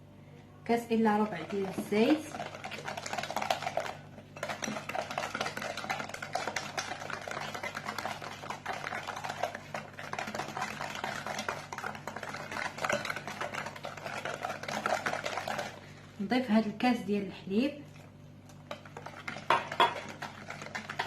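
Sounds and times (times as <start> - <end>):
utensil mixing batter in bowl: 0.8 - 21.0.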